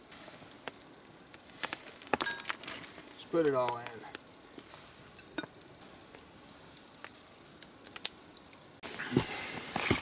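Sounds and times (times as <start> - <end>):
campfire crackling: 0.0 - 10.0.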